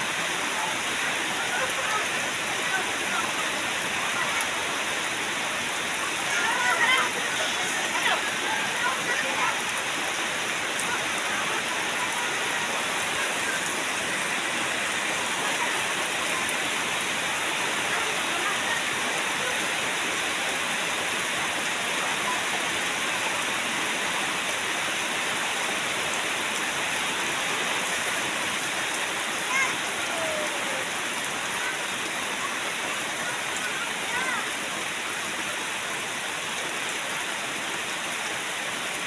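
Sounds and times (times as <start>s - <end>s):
rain falling on puddles and leaves: 0.0s - 39.0s.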